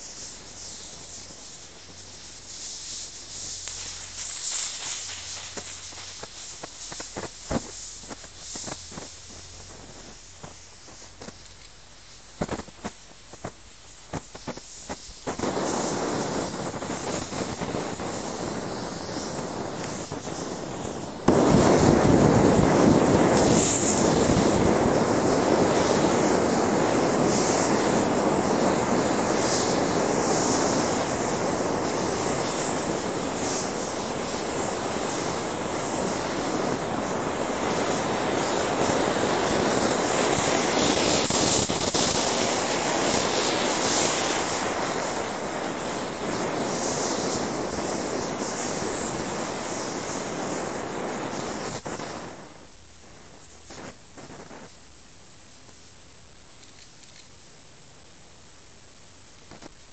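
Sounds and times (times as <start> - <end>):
gas hissing: 0.0 - 57.0
small pops and crackles: 0.0 - 59.9.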